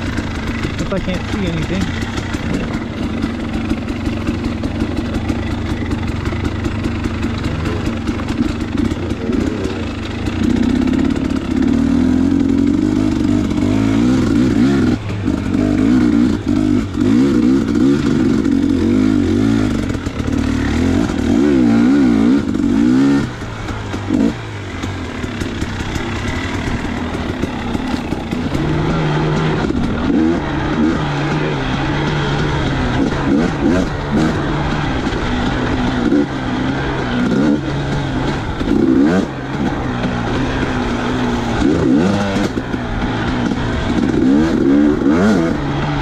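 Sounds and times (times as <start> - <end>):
two-stroke dirt bike engine revving: 0.0 - 46.0.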